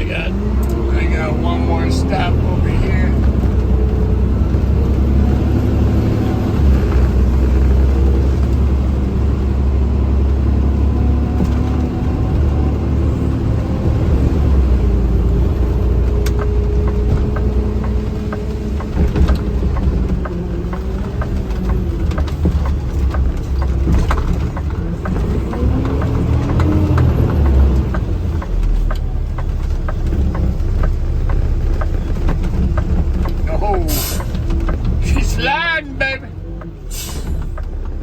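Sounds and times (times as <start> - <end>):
engine and road noise in cabin: 0.0 - 38.0.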